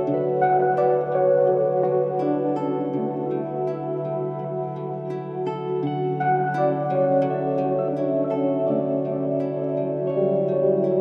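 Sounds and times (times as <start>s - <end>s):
gentle new-age music: 0.0s - 11.0s.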